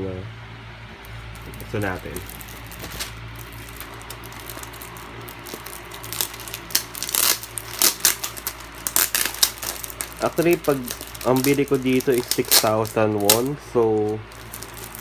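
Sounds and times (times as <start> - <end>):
plastic sleeve crinkling: 1.0 - 15.0.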